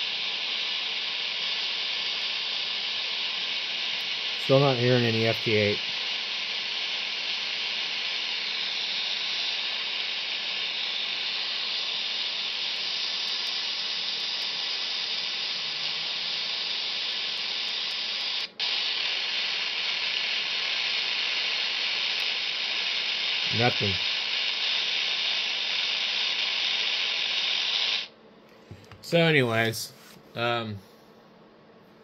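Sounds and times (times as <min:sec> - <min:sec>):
radio static hissing: 0:00.0 - 0:30.8.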